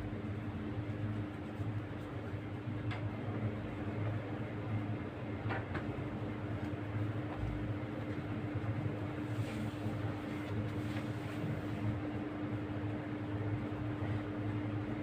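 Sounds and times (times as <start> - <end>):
low hum with faint tone: 0.0 - 15.0.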